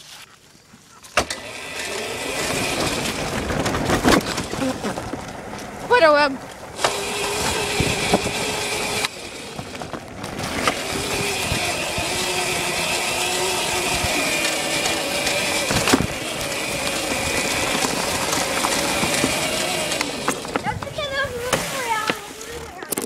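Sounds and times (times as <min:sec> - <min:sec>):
dirt bike engine running: 0:01.2 - 0:23.0.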